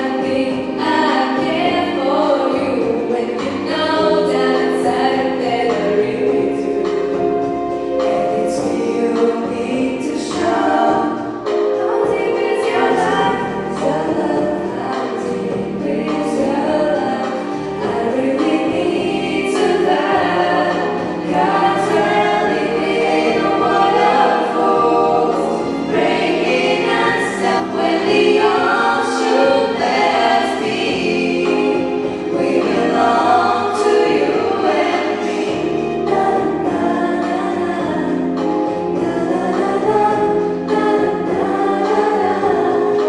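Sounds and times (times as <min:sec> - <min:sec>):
choir singing: 0:08.0 - 0:43.0.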